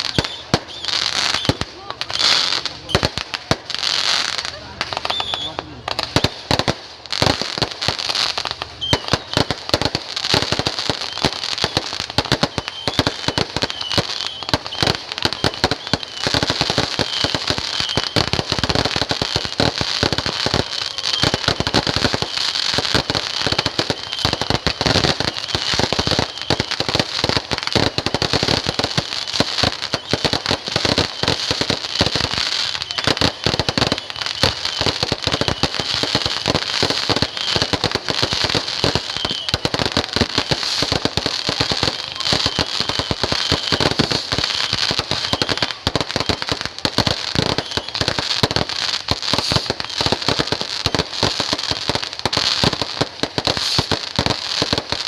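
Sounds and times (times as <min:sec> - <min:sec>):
fireworks crackling: 0:00.0 - 0:55.0
fireworks pops and bangs: 0:00.0 - 0:55.0.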